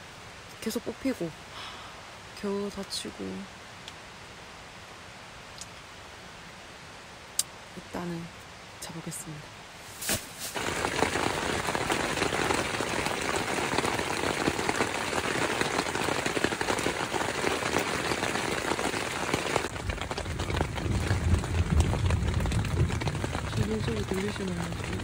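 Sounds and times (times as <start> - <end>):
heavy rain on tent: 0.0 - 25.0.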